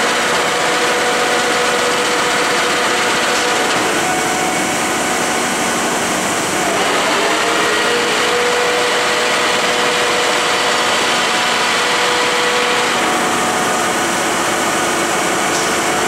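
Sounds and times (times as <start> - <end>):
machine drive noise: 0.0 - 16.0.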